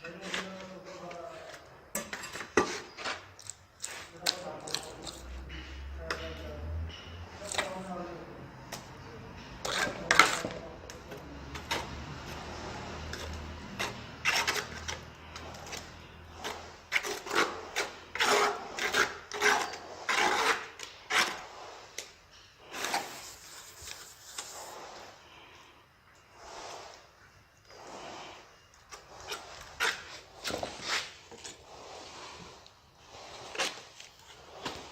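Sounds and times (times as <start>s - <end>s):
hand tool scraping: 0.0s - 34.9s.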